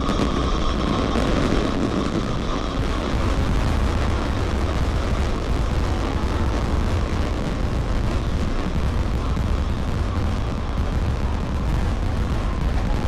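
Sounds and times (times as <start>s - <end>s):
fireworks barrage crackling: 0.0s - 13.0s.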